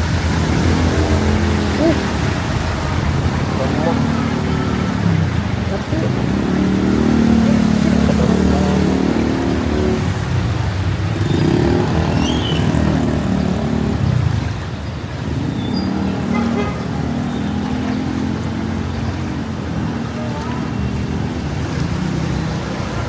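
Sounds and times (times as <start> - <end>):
street traffic engine hum: 0.0 - 23.0.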